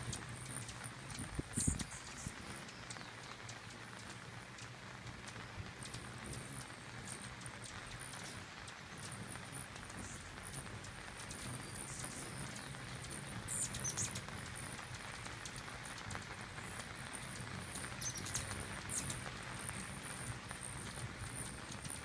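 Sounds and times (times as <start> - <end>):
hummingbird chip calls: 0.0 - 22.0
hummingbird wings humming: 0.0 - 22.0.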